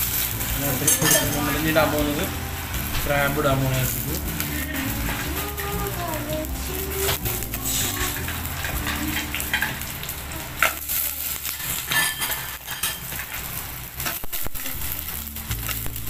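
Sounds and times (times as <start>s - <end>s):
crabs sizzling in oil: 0.0s - 16.0s.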